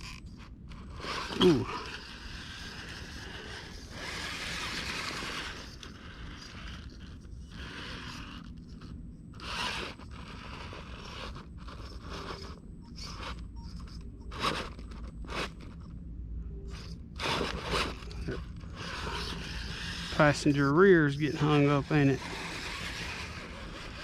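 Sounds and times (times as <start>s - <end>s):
toy car scraping on rock: 0.0s - 15.9s, 16.7s - 24.0s.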